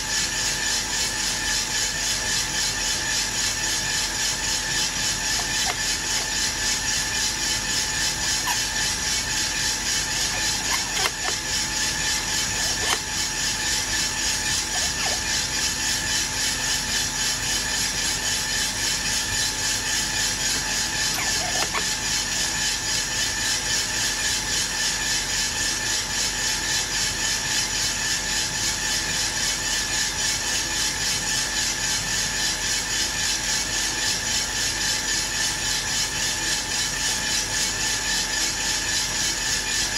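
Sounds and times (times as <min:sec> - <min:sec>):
fan and motor hum: 0:00.0 - 0:39.9.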